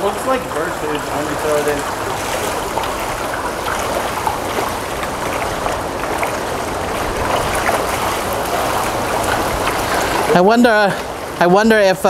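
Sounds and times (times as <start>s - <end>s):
fish splashing at water surface: 0.0s - 11.4s.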